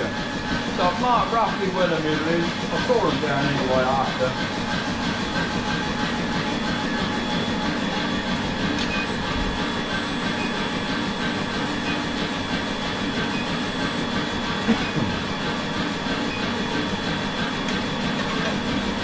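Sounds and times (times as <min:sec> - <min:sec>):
workshop machinery running: 0:00.0 - 0:19.0.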